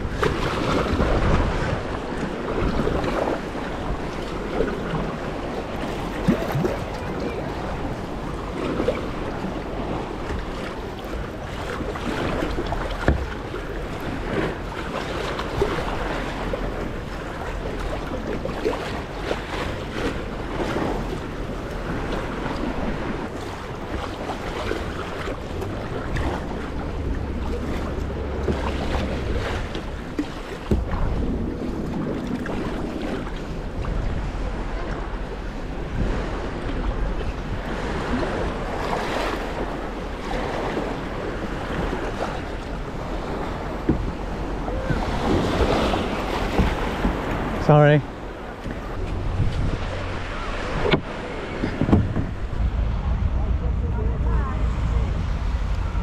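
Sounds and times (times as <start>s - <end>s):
paddle splashing in water: 0.0s - 53.2s
water slapping against hull: 0.0s - 56.0s
wind buffeting microphone: 0.0s - 56.0s.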